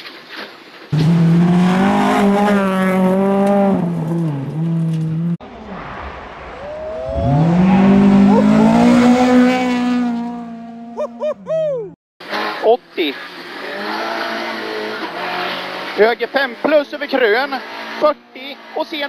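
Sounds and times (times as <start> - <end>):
rally car engine at high revs: 0.9 - 5.4, 7.1 - 11.2, 12.2 - 19.0.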